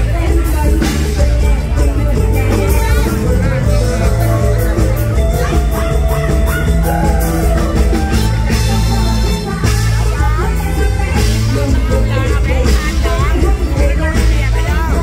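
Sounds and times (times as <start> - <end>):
amplified band music: 0.0 - 15.0
heavy bass line: 0.0 - 15.0
person singing: 0.0 - 15.0
steady drums: 0.0 - 15.0.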